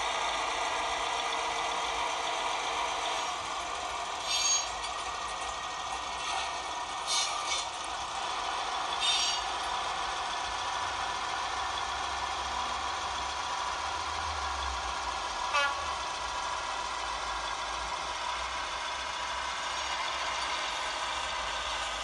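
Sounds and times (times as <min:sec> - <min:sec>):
model diesel engine sound: 0:00.0 - 0:22.0.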